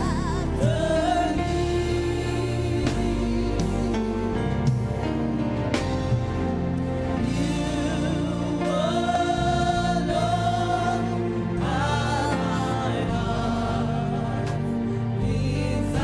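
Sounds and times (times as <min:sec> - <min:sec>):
keyboard and bass accompaniment: 0:00.0 - 0:16.0
voices singing gospel: 0:00.0 - 0:16.0.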